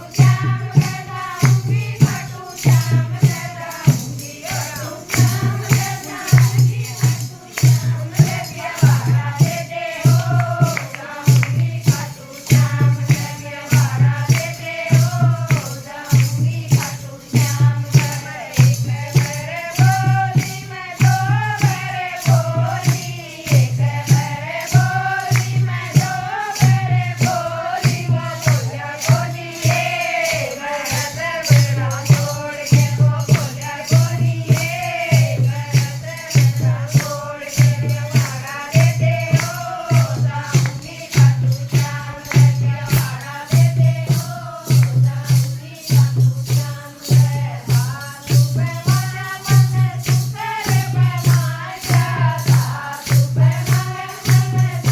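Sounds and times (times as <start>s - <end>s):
shaker ticking: 0.0s - 54.9s.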